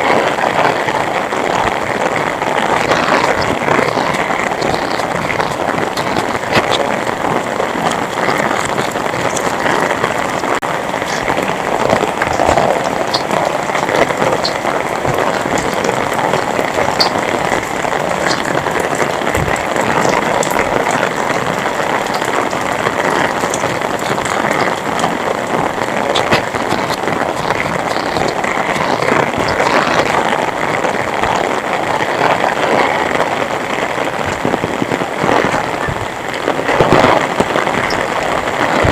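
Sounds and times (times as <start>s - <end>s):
heavy rain pouring: 0.0s - 38.9s
rain drop ticks: 0.0s - 38.9s.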